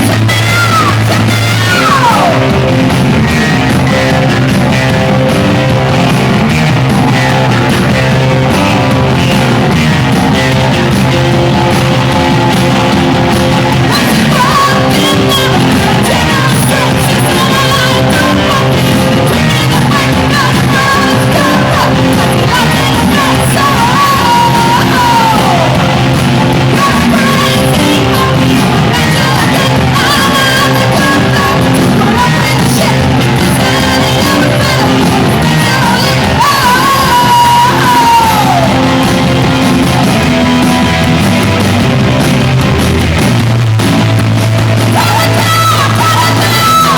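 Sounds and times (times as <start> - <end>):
singer yelling vocals: 0.0 - 41.8, 44.8 - 46.9
rock band playing loudly: 0.0 - 46.9.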